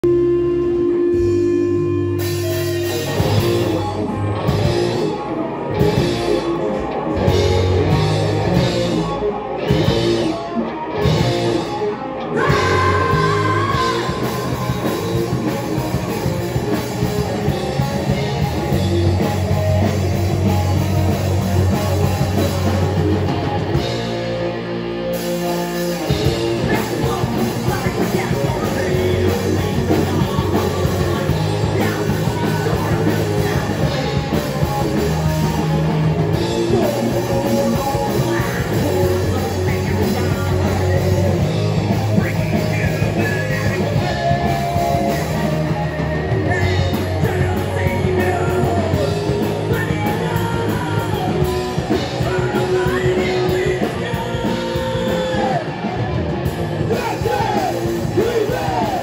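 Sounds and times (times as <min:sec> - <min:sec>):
person singing: 0:00.0 - 0:24.0, 0:25.9 - 0:56.2, 0:56.8 - 0:59.0
heavy metal band playing: 0:00.0 - 0:59.0.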